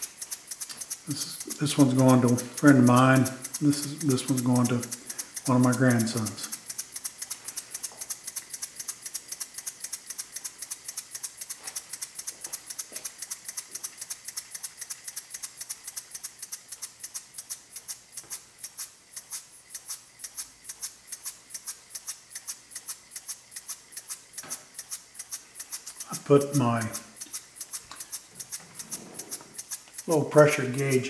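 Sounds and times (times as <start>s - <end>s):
model steam engine exhaust puffs: 0.0s - 31.0s.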